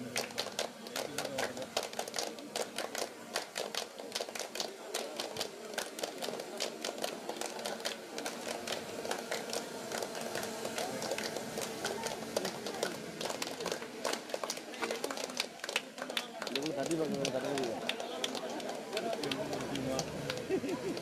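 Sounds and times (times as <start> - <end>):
crowd clapping: 0.0 - 21.0.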